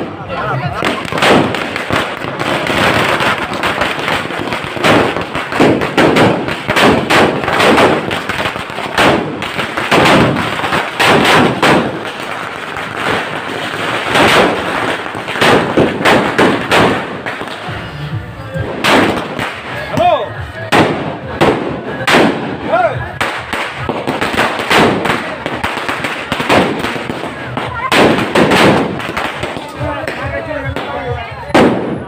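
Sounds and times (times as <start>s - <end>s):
firecrackers going off: 0.0s - 32.0s.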